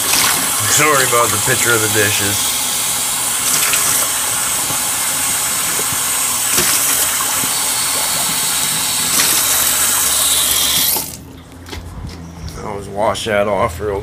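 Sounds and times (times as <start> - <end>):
faucet water running into sink: 0.0 - 11.2.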